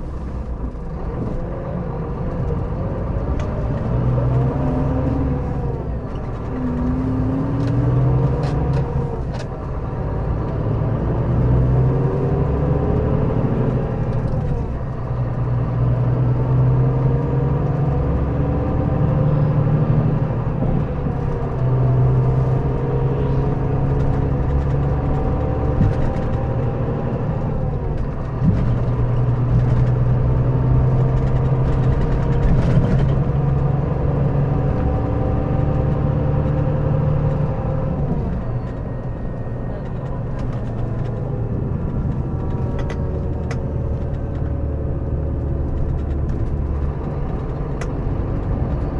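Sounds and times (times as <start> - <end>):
bus diesel engine under load: 0.0 - 48.9.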